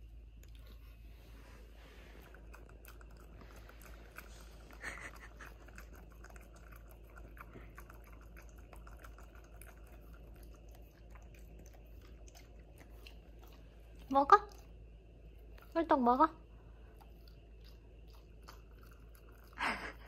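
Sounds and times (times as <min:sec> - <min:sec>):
dog chewing: 0:02.2 - 0:15.8, 0:16.8 - 0:19.9.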